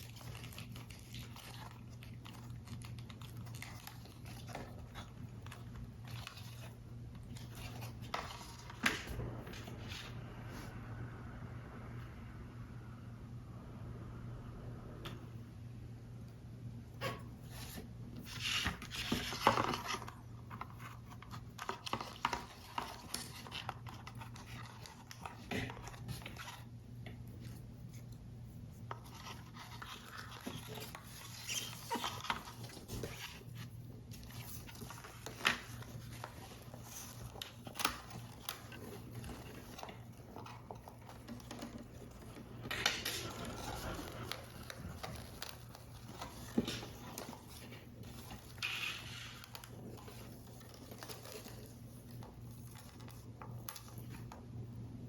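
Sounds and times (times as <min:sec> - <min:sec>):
card stock rustling: 0:00.0 - 0:10.2, 0:17.5 - 0:54.4.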